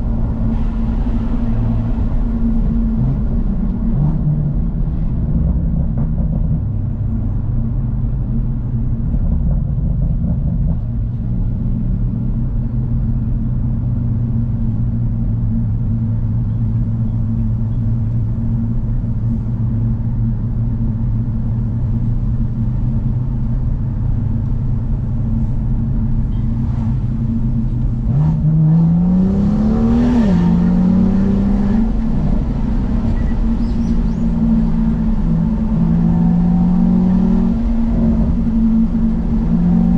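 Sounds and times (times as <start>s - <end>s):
car engine droning and accelerating: 0.0s - 39.9s.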